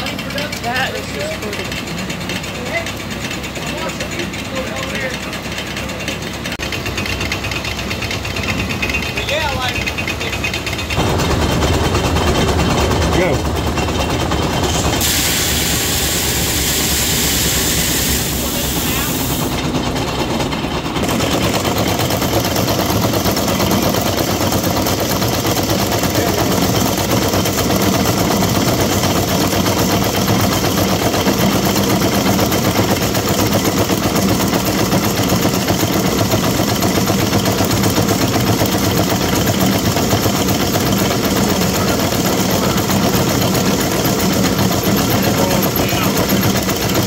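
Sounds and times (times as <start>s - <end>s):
grist mill grinding corn: 0.0s - 47.0s
tractor engine running: 0.0s - 47.0s.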